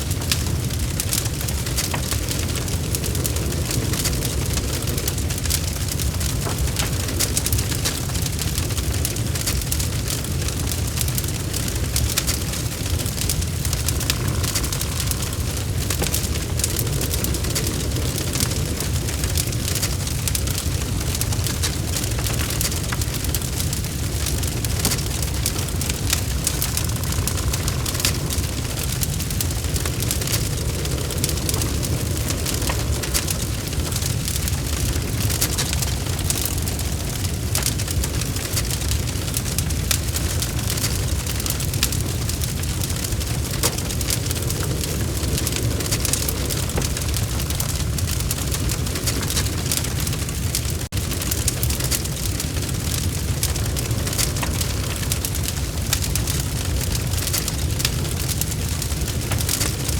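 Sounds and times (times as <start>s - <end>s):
fire burning with crackles: 0.0s - 59.9s.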